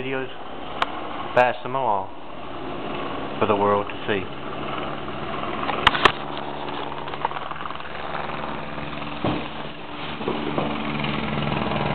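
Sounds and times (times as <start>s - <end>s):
engine idling: 0.0s - 11.9s.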